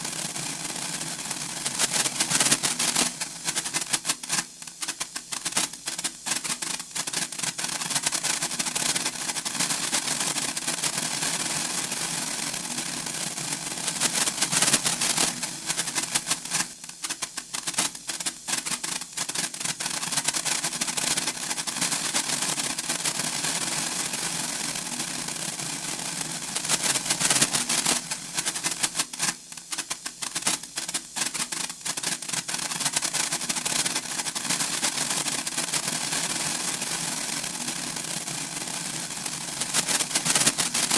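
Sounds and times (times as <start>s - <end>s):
sparkler crackling: 0.0s - 40.9s.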